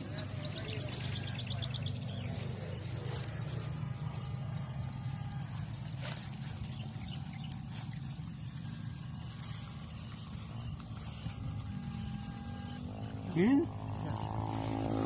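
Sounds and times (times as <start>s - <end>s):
inverter pulsing buzz: 0.0s - 15.0s.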